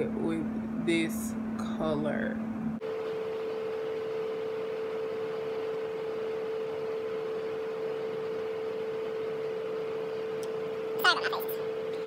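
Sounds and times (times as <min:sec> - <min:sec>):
steady pure tone: 0:00.0 - 0:12.0.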